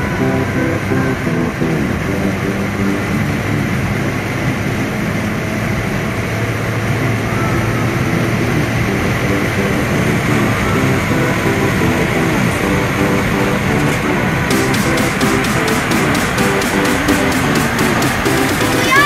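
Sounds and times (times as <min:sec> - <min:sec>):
road noise in car cabin: 0:00.0 - 0:19.0.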